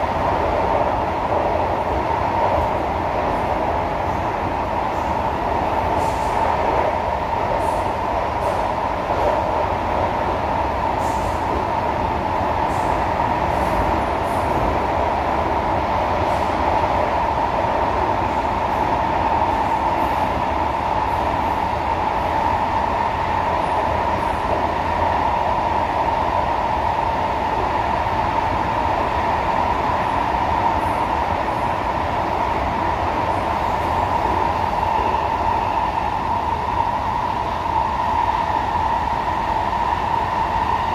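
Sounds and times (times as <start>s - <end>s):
metro train running: 0.0s - 40.9s.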